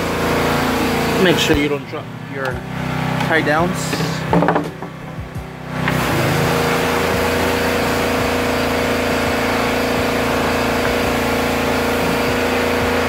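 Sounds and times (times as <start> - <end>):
mechanical drone: 0.0 - 13.0.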